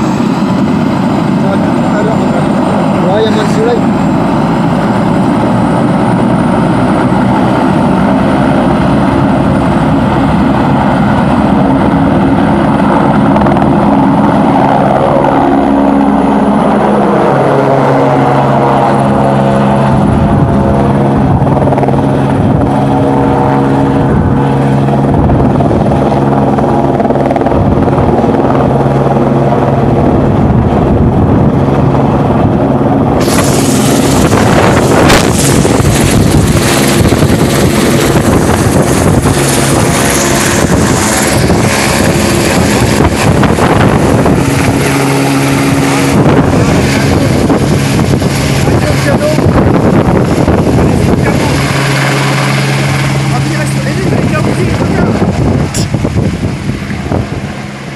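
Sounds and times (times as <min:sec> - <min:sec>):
helicopter rotor and engine: 0:00.0 - 0:57.9
wind hitting microphone: 0:00.0 - 0:57.9.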